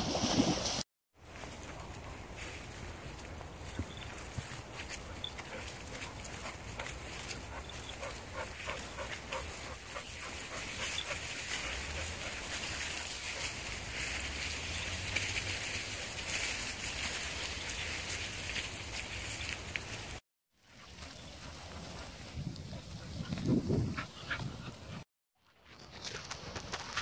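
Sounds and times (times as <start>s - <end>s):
rustling leaves and twigs: 0.0s - 23.2s.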